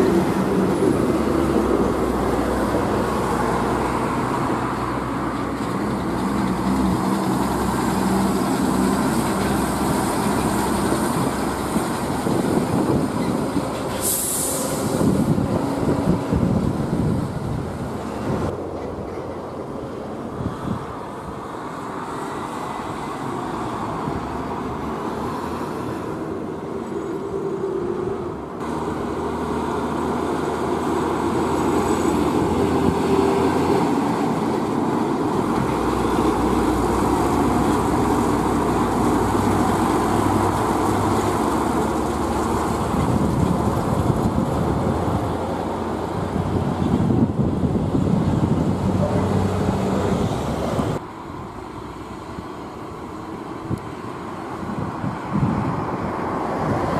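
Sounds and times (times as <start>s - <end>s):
truck diesel engine under load: 0.0s - 56.9s
tyre and road noise: 0.0s - 56.9s.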